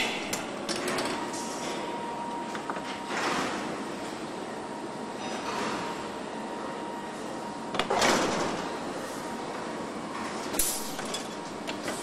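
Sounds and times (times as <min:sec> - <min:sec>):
factory machine background: 0:00.0 - 0:12.0.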